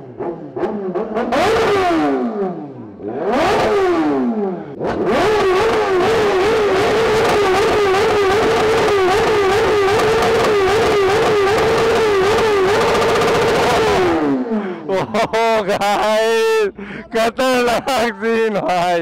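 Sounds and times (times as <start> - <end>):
motorcycle engine revving: 0.0 - 16.5.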